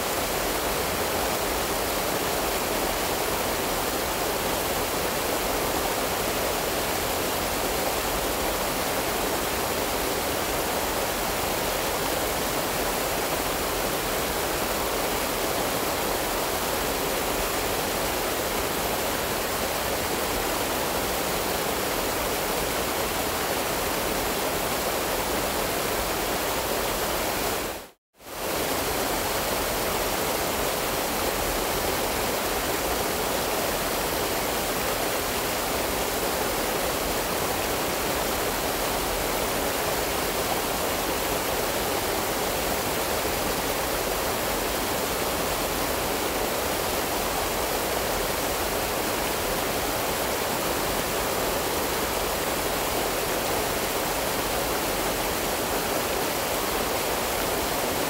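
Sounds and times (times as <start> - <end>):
waterfall rushing over rock: 0.0 - 58.0.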